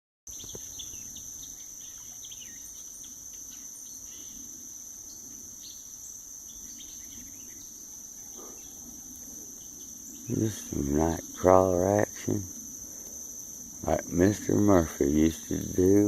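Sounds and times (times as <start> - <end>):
high-pitched insect chorus: 0.3 - 16.0.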